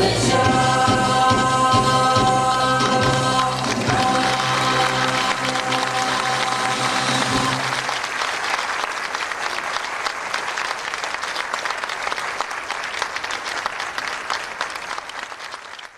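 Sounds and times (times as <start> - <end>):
audience applause: 2.9 - 15.9.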